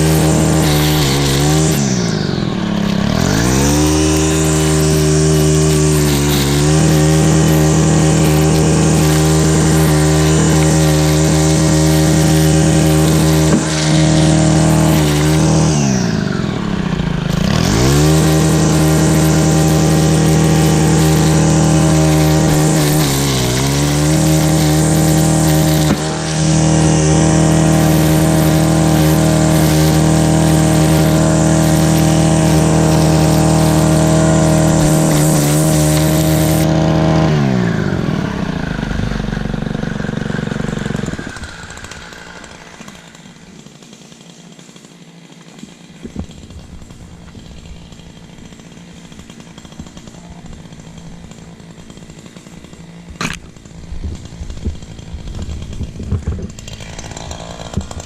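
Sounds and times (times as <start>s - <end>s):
two-stroke power tool engine revving: 0.0s - 58.0s.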